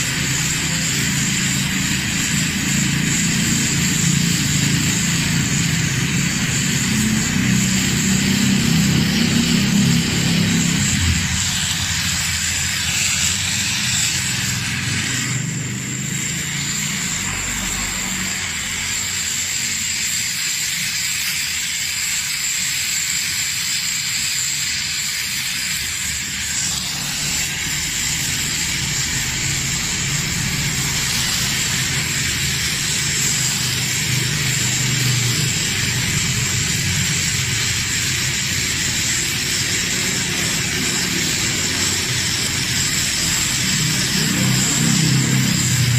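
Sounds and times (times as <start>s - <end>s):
gas torch flame hissing: 0.0s - 45.9s.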